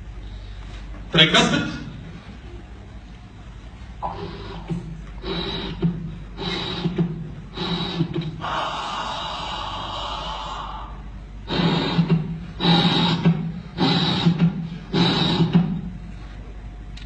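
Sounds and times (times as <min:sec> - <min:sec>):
heartbeat with whooshing murmur: 0:02.0 - 0:16.8.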